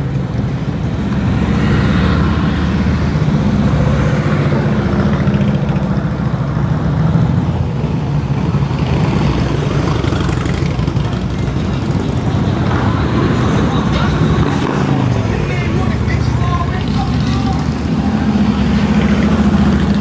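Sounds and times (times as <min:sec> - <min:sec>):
motorcycle engines passing slowly: 0:00.0 - 0:20.0.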